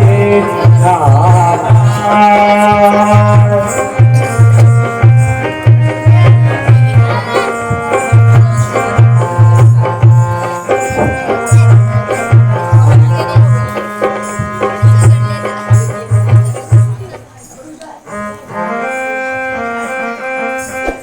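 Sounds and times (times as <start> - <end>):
steady drum beat: 0.0 - 17.3.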